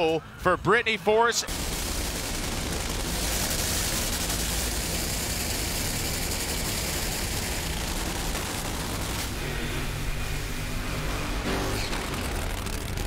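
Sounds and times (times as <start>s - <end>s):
broad rushing noise: 0.0s - 13.0s
low engine rumble: 1.5s - 13.0s.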